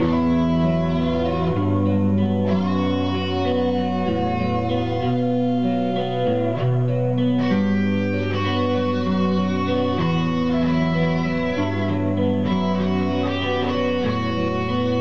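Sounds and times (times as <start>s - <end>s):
low bass line: 0.0s - 15.0s
plucked guitar: 0.0s - 15.0s.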